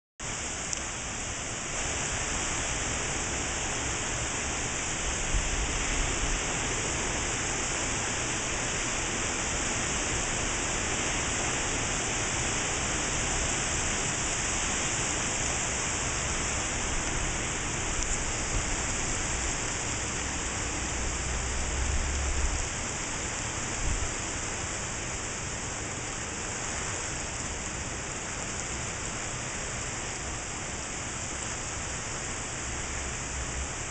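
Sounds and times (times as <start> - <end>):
heavy rain hissing: 0.2 - 33.9.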